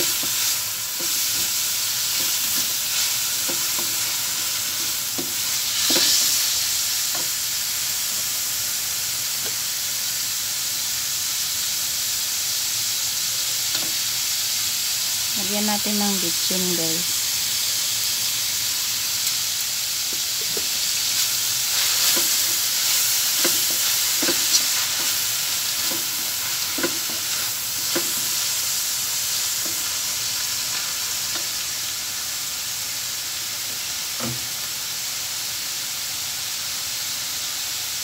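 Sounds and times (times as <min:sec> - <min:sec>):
food sizzling in a wok: 0:00.0 - 0:38.0.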